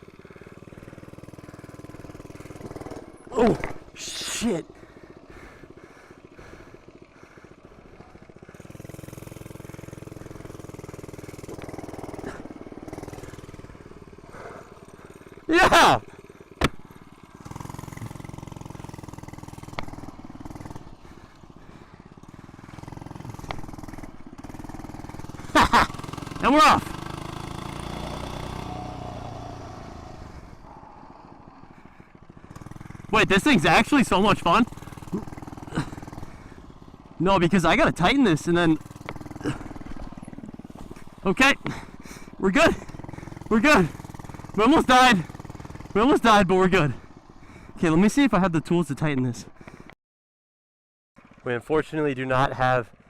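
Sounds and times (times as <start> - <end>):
mini bike engine running: 0.0 - 49.9, 51.2 - 53.0.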